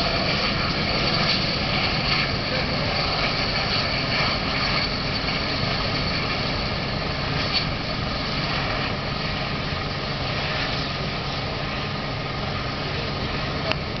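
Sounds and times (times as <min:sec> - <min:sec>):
jet engines whining at taxi power: 0:00.0 - 0:14.0.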